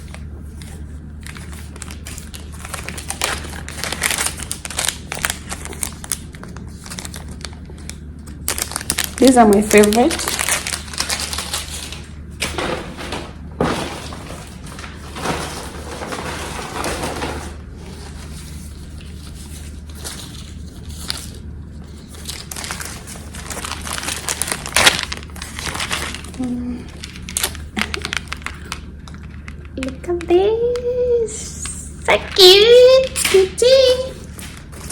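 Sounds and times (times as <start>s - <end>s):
packaging crinkling and rustling: 0.0s - 30.2s, 31.6s - 34.9s
faint steady hum: 0.0s - 34.9s.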